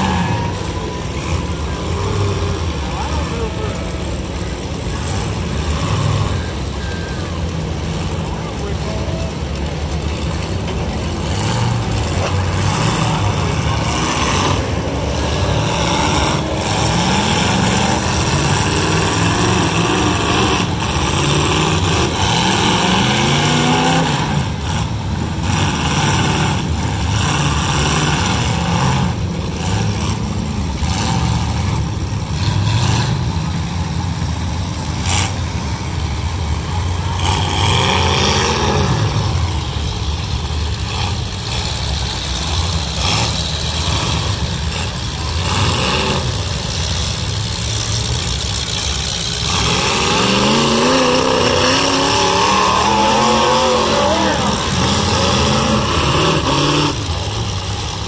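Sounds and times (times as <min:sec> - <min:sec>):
car engines revving hard: 0:00.0 - 0:58.0.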